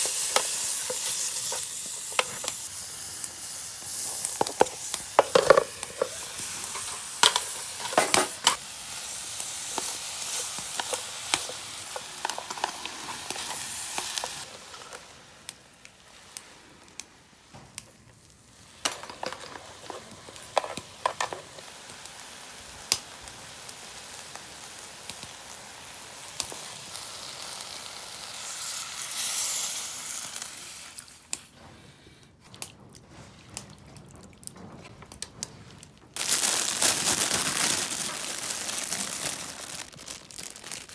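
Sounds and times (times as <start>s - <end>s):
meat and vegetables sizzling: 0.0s - 31.4s, 36.2s - 40.9s.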